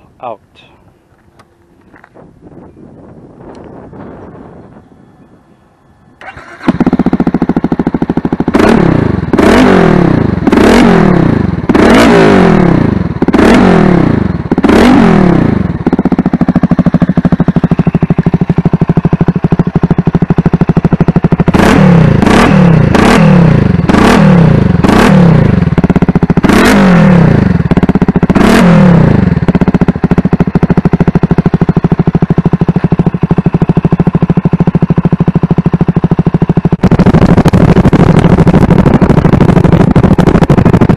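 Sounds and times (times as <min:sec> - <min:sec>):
engine idling: 0:00.0 - 0:40.9
engine throttle blips: 0:00.8 - 0:40.9
motorcycle engine starting: 0:01.1 - 0:40.9.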